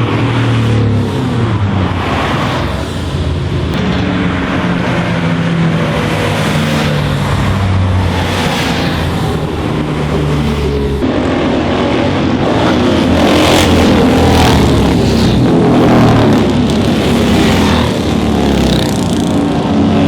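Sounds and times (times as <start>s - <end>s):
racing car accelerating through gears: 0.0s - 19.9s
racing car engine at full throttle: 0.0s - 20.0s.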